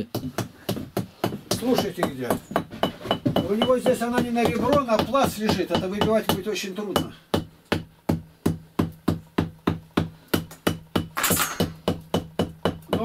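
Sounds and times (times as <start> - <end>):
hammer knocking on plastered brick: 0.1 - 13.0.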